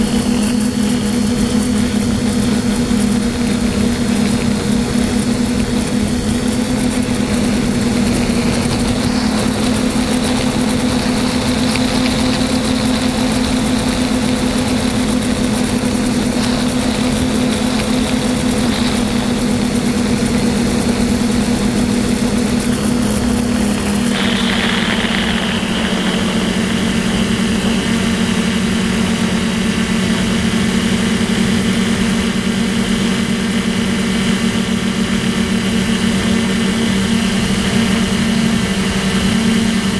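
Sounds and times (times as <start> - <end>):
drone propellers whirring: 0.0 - 39.9.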